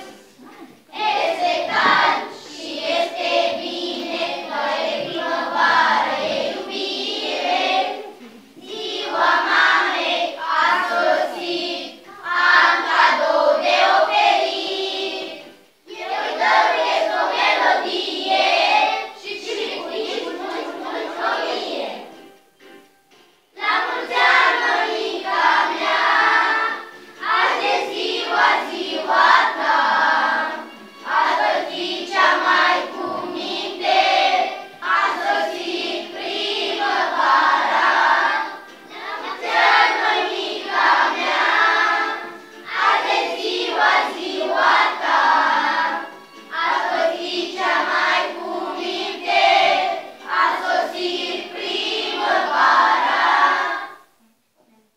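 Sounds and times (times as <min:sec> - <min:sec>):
children singing together: 0:00.0 - 0:22.6, 0:23.5 - 0:54.3.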